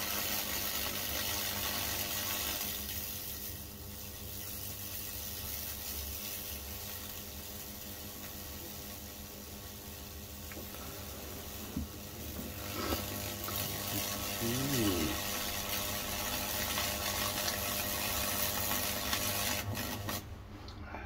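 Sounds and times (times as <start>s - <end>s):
electrical arcing sizzling hiss: 0.0s - 20.4s
electrical hum: 0.0s - 21.0s.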